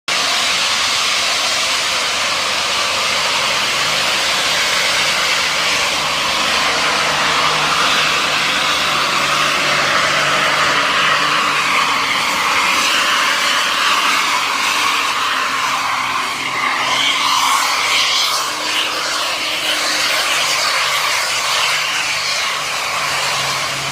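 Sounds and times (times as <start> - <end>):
bus diesel engine jet-like hiss: 0.1 - 23.9.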